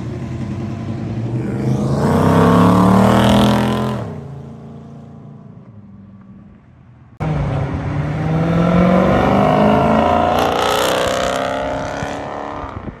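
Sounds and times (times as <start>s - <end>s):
car engine accelerating hard: 0.0s - 4.6s, 7.2s - 13.0s.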